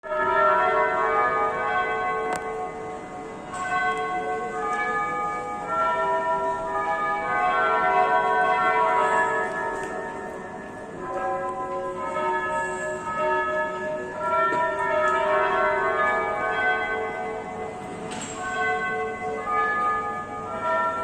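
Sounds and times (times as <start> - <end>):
bells ringing: 0.0 - 21.0.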